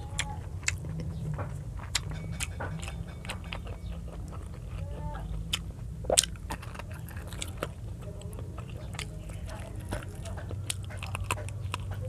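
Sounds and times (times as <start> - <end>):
steady low hum: 0.0 - 12.0
wet chewing mouth clicks: 0.0 - 12.0.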